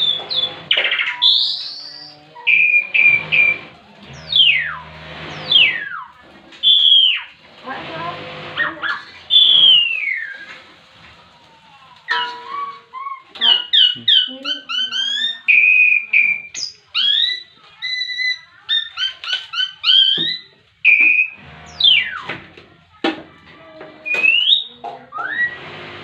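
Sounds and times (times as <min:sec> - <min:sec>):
starling singing whistled notes: 0:00.0 - 0:07.4, 0:08.6 - 0:10.6, 0:12.1 - 0:22.4, 0:24.1 - 0:25.8.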